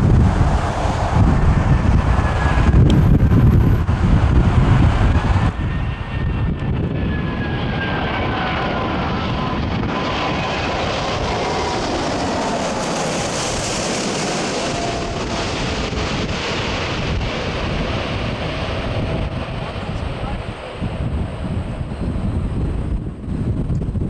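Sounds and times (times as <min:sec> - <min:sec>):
jet engines whining: 0:00.0 - 0:24.0
wind buffeting microphone: 0:00.0 - 0:24.0.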